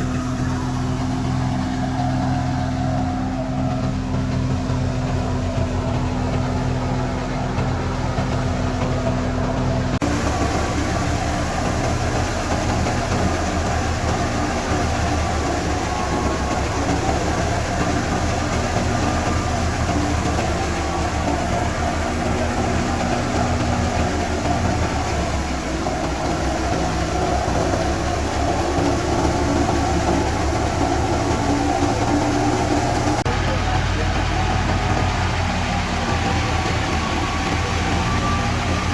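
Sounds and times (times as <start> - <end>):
thresher engine running: 0.0 - 38.9.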